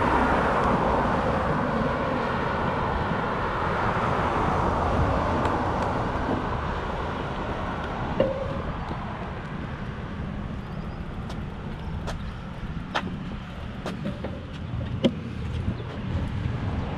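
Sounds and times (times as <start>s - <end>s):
car passing: 0.0s - 16.9s
scooter wheels rolling on pavement: 0.0s - 16.9s.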